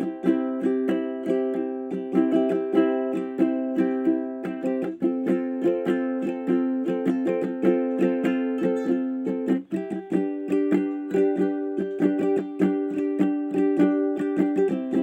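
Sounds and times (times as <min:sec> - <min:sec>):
plucked strings instrumental: 0:00.0 - 0:15.0.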